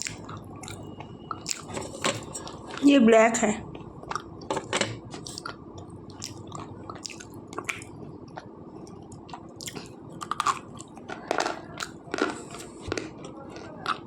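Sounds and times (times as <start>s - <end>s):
person chewing crunchy pencil: 0.0s - 2.9s, 3.7s - 4.5s, 5.1s - 14.0s.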